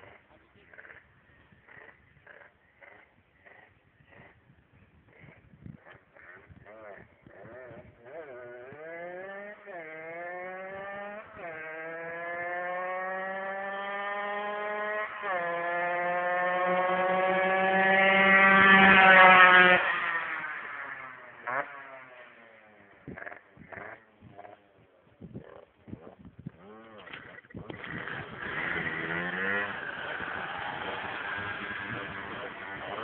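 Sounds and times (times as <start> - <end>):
moped engine accelerating: 1.6 - 33.0.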